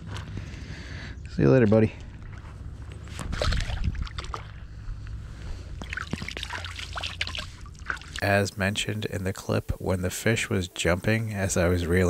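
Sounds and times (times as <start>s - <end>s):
water splashing and trickling: 1.7s - 4.8s, 5.4s - 12.0s.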